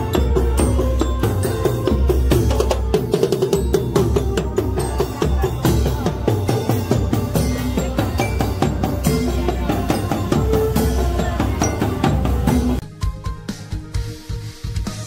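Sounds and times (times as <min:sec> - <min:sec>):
bass drums: 0:00.0 - 0:15.0
held notes above drumming: 0:00.0 - 0:15.0.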